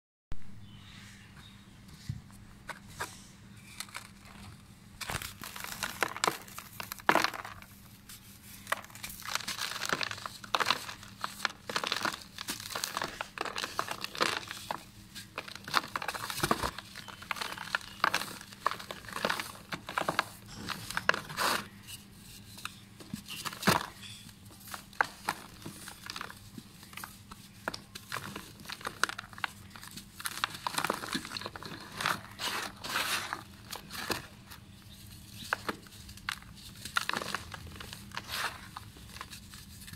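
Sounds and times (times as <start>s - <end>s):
dirt crumbling by hand: 3.6s - 7.8s, 8.6s - 21.8s, 22.7s - 39.9s
crumbs falling into plastic tub: 3.8s - 7.8s, 8.6s - 21.8s, 23.1s - 34.4s, 35.5s - 39.4s.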